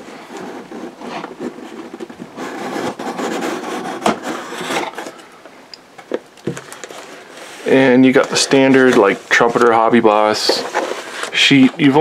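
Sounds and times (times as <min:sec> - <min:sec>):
cardboard scraping on cardboard: 0:00.0 - 0:05.1, 0:06.9 - 0:12.0.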